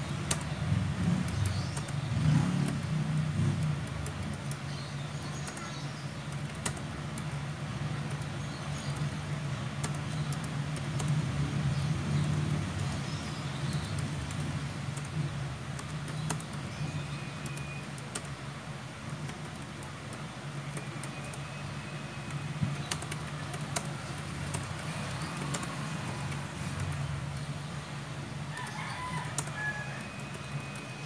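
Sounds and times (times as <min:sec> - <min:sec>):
fast typing on keyboard: 0:00.0 - 0:27.6, 0:28.5 - 0:31.0.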